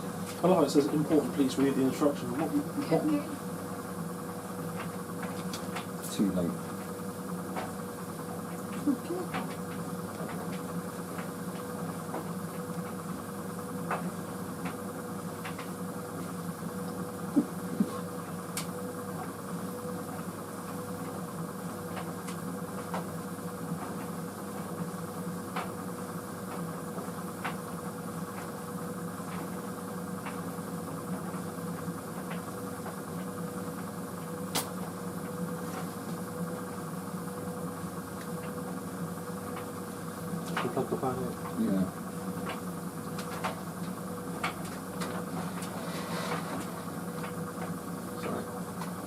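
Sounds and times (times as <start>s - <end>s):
tumble dryer humming: 0.0s - 49.0s.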